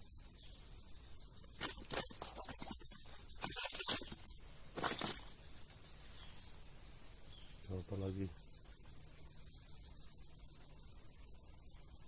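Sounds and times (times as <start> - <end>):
rustling in dry fronds and grass: 0.0 - 12.0.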